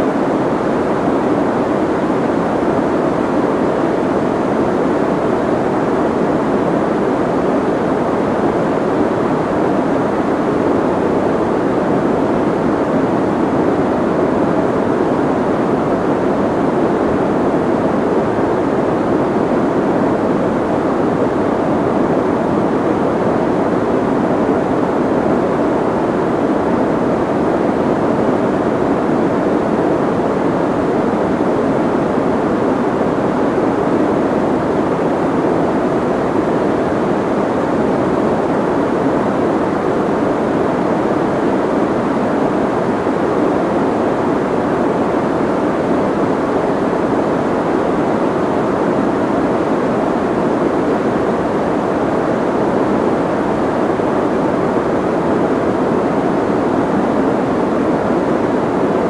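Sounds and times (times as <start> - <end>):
muffled white noise hiss: 0.0 - 59.0.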